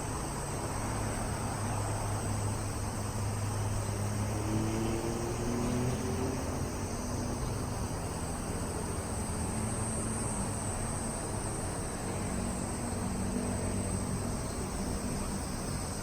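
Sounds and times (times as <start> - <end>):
cicadas chorus: 0.0 - 16.0.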